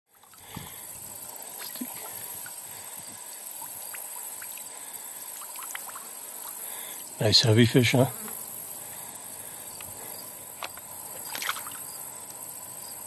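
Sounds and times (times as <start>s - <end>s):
insect chirps and ticks: 0.1s - 13.0s
insects high-pitched drone: 0.2s - 13.0s.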